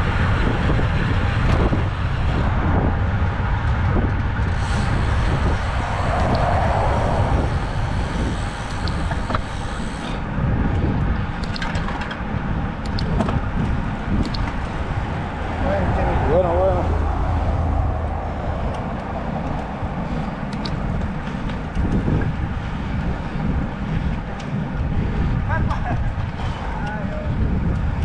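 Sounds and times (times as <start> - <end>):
road and traffic rumble: 0.0 - 28.0.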